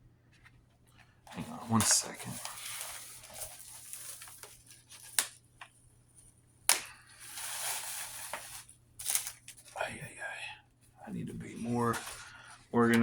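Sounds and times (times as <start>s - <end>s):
paper and packaging rustling: 1.0s - 10.0s, 11.1s - 13.0s.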